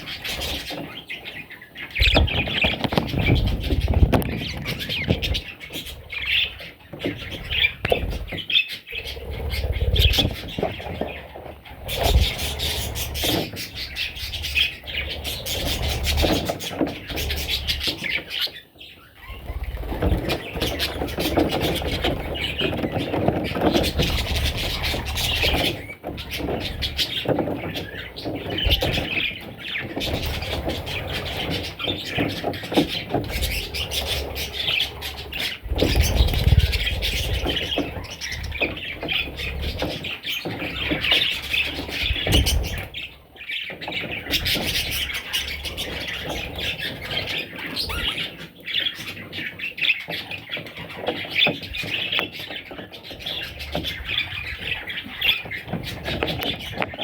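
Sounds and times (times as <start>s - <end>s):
budgerigars chattering and squawking: 0.0s - 57.0s.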